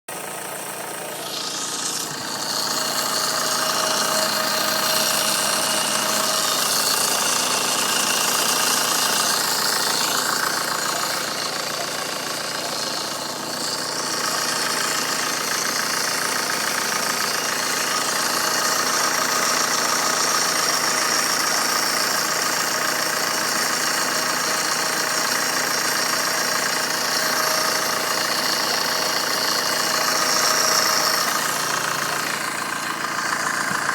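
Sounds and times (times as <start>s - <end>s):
odd noise from turbo: 0.1s - 23.2s, 25.2s - 33.9s
diesel engine idling: 0.1s - 33.9s.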